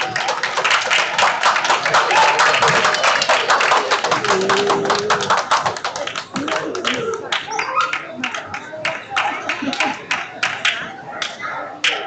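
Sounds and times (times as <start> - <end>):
audience clapping: 0.0 - 12.0
crowd voices: 0.0 - 12.0.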